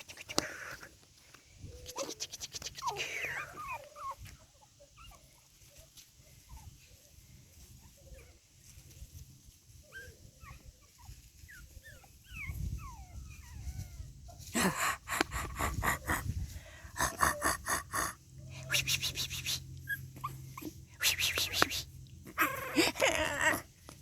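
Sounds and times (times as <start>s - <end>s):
puppies whimpering and whining: 1.7s - 14.6s, 17.3s - 23.8s.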